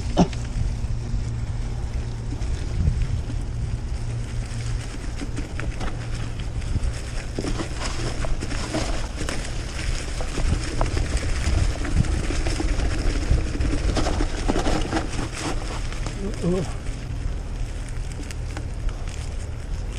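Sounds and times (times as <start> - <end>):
wind rumbling on microphone: 0.0 - 19.9.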